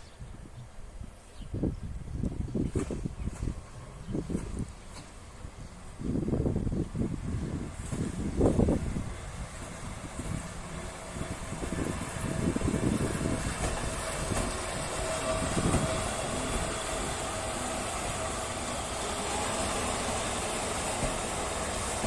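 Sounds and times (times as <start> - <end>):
train rumbling along track: 0.1 - 22.0.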